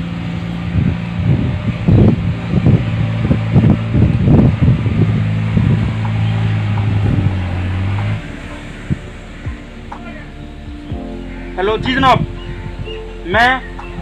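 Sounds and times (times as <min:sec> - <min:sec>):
steady low hum: 0:00.0 - 0:14.0
wind buffeting microphone: 0:00.0 - 0:14.0.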